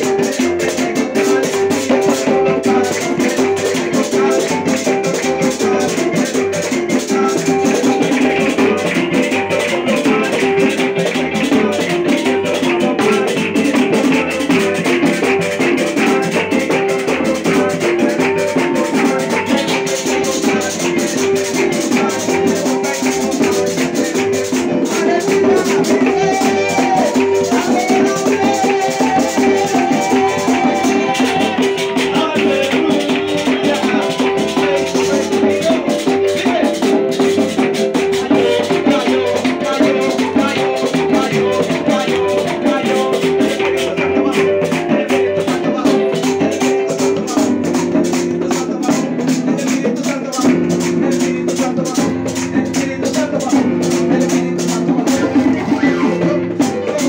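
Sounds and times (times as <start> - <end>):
electronic keyboard: 0.0 - 57.0
fast rattling percussion beat: 0.0 - 57.0
hand clapping: 0.0 - 57.0
man singing into microphone: 0.0 - 57.0.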